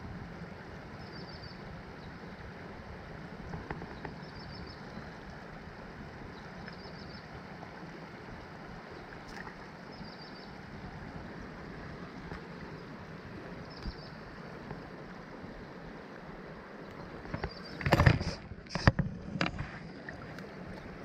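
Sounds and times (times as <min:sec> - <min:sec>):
flowing creek water: 0:00.0 - 0:21.0.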